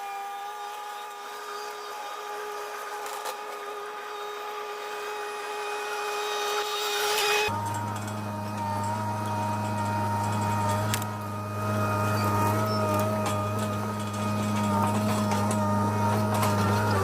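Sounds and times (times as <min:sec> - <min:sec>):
chainsaw running at high revs: 0:00.0 - 0:17.0
deep engine drone: 0:00.0 - 0:17.0.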